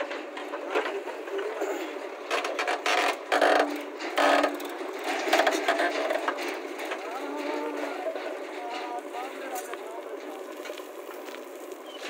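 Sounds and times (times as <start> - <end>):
backhoe engine and hydraulics: 0.0 - 12.0.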